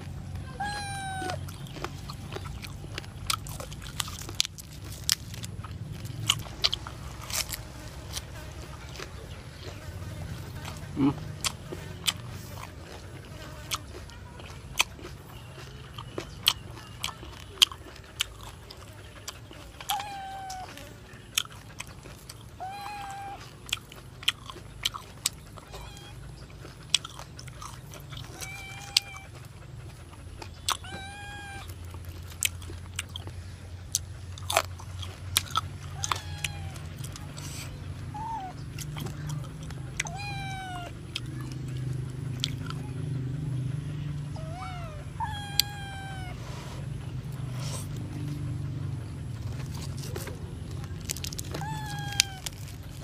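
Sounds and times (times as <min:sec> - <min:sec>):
small animal pitched calls: 0:00.0 - 0:14.2, 0:15.4 - 0:53.0
crunchy chewing: 0:00.0 - 0:53.0.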